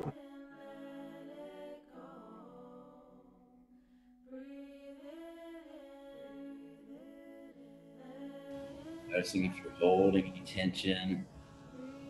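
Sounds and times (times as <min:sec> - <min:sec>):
voices holding chant-like notes: 0:00.0 - 0:03.4, 0:04.3 - 0:12.0.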